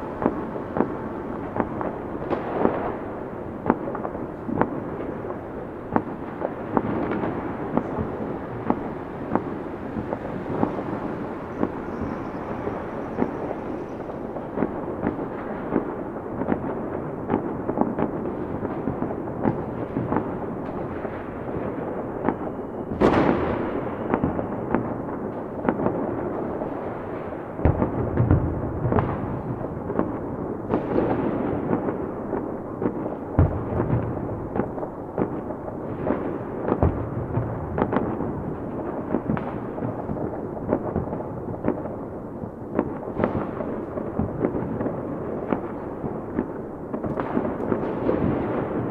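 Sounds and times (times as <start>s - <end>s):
deep fireworks booms: 0.0s - 48.9s
fireworks popping and crackling: 0.0s - 48.9s
fireworks sharp bangs: 0.0s - 48.9s.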